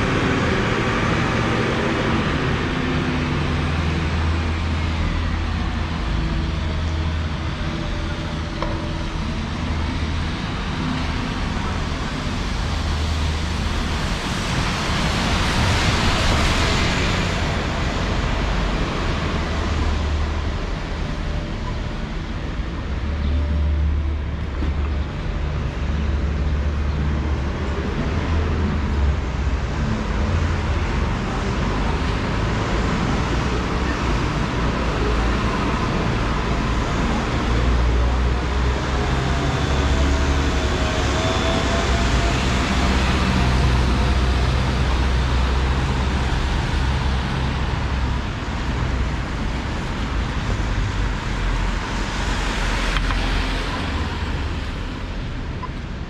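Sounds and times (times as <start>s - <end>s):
passing vehicles rumble and hiss: 0.0s - 56.0s
vehicle whine: 0.0s - 56.0s.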